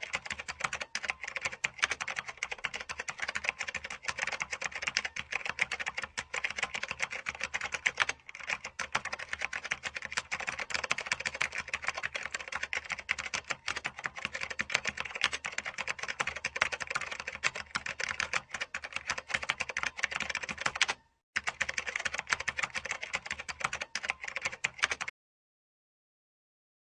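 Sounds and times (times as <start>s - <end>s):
fast typing on keyboard: 0.0s - 25.1s.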